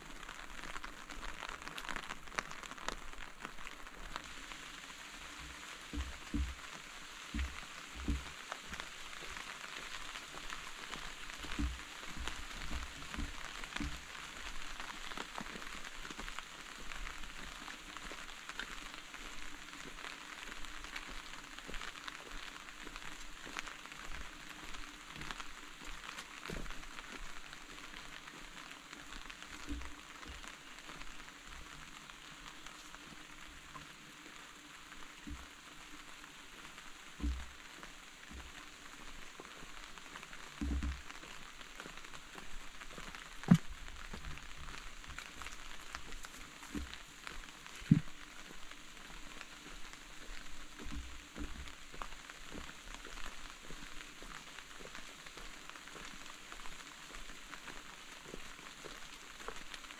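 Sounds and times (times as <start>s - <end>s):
rain falling: 0.0s - 59.9s
water drips: 0.0s - 59.9s.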